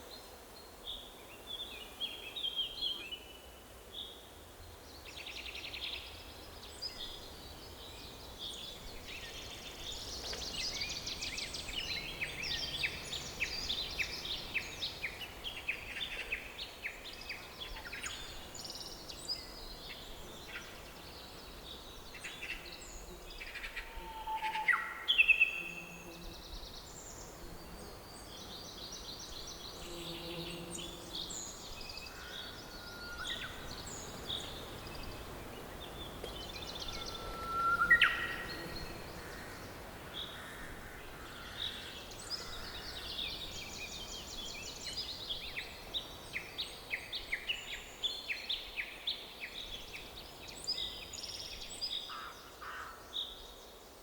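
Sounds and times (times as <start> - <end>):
faint background hiss: 0.0 - 54.0
forest birds singing: 0.0 - 54.0.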